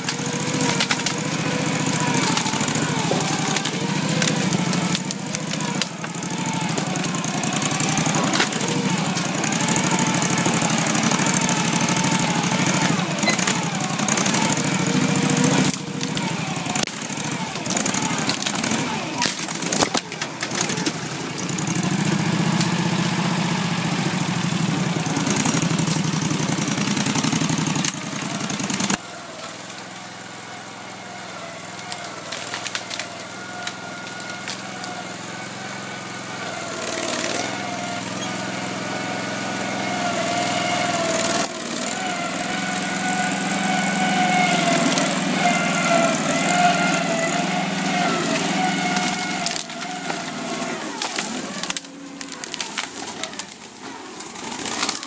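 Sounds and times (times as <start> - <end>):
tracked vehicle engine running: 0.0 - 55.0.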